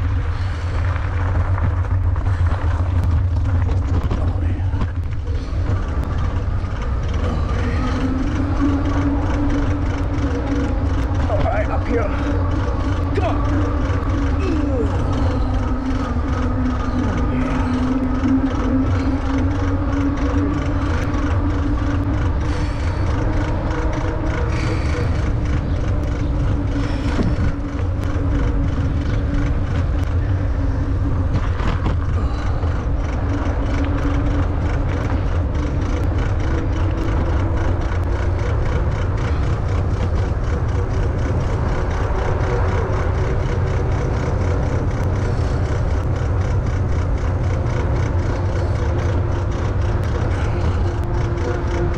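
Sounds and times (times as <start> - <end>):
electric motor drone: 0.0 - 51.9
tyres rolling on pavement: 0.0 - 51.9
wind buffeting microphone: 0.0 - 51.9.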